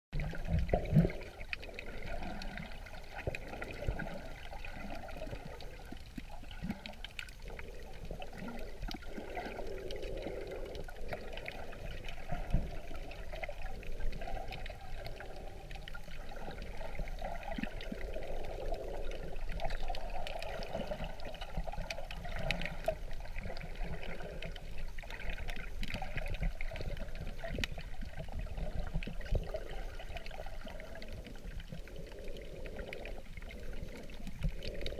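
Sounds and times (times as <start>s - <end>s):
muffled underwater water wash: 0.1s - 34.9s.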